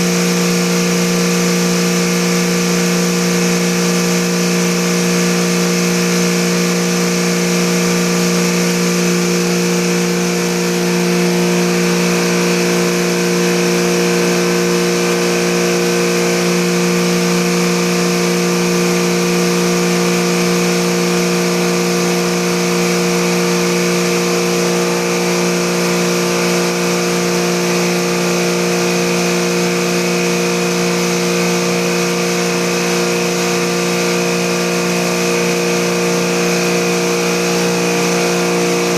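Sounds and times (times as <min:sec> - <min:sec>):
cleaning machine motor humming: 0:00.0 - 0:38.9.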